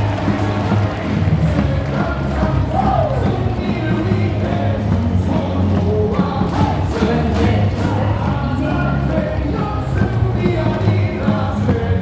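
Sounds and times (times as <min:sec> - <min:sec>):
crowd singing along: 0:00.0 - 0:12.0
stadium music over speakers: 0:00.0 - 0:12.0.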